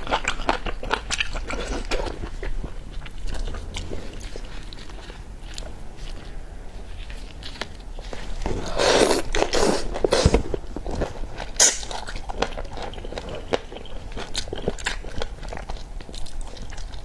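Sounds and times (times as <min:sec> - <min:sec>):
person chewing and sucking: 0:00.0 - 0:17.0.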